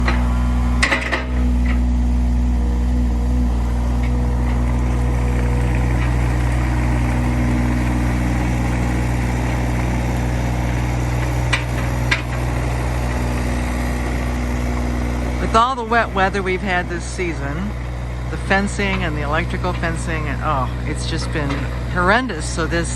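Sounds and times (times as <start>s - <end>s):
excavator diesel engine idling: 0.0s - 22.9s.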